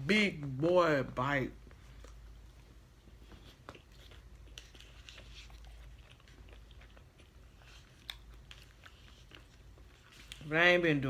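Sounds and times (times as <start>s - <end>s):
person chewing: 1.6s - 10.5s.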